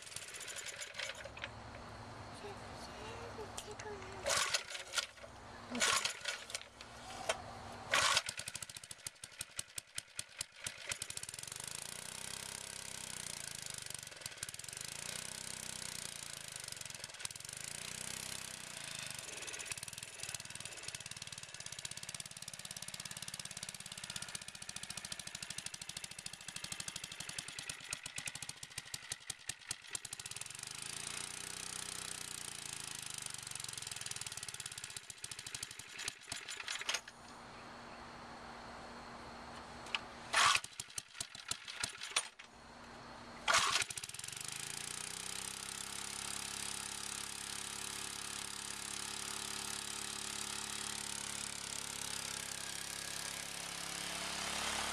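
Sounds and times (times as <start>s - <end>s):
single-cylinder engine running: 0.0s - 37.1s, 43.4s - 54.9s.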